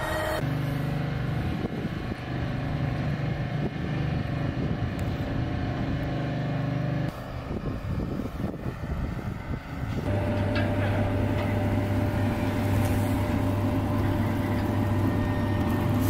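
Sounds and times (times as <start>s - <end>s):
machinery rumbling: 0.0s - 16.0s
mechanical hum with high tone: 0.0s - 16.0s.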